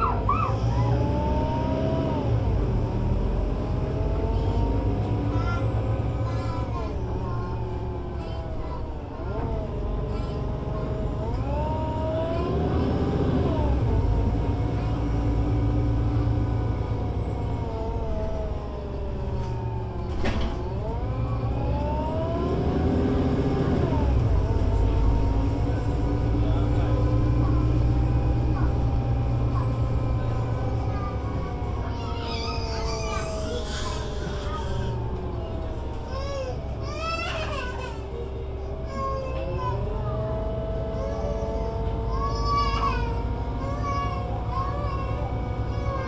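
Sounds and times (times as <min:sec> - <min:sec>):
bus engine and drivetrain: 0:00.0 - 0:46.0.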